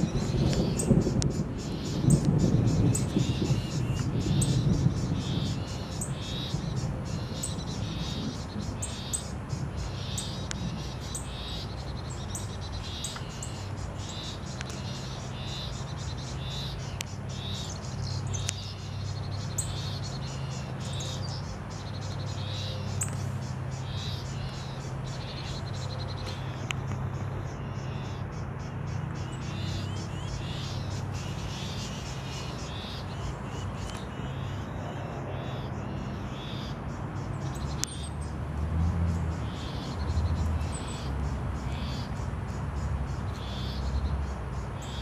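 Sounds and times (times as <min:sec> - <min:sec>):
bird chirping: 0:00.0 - 0:45.0.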